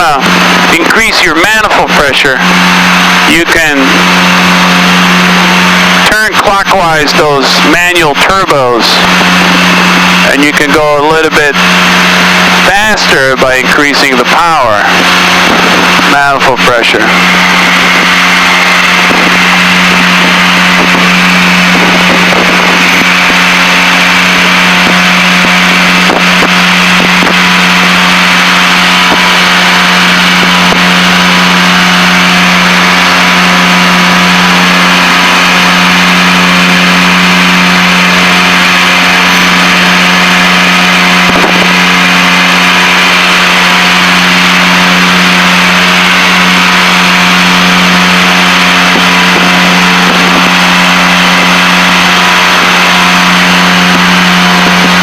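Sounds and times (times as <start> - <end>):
aircraft engines droning: 0.0 - 55.0.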